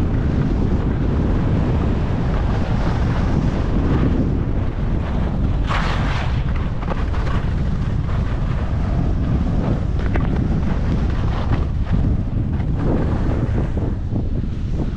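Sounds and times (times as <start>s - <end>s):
wind buffeting microphone: 0.0s - 14.9s
skis scraping on snow: 0.2s - 14.9s.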